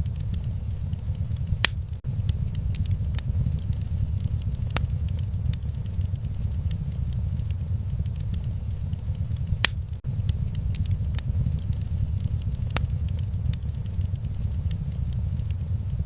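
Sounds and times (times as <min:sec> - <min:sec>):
sharp pops from fire: 0:00.0 - 0:16.0
steady low rumble: 0:00.0 - 0:16.0
wood fire crackling: 0:00.0 - 0:16.0.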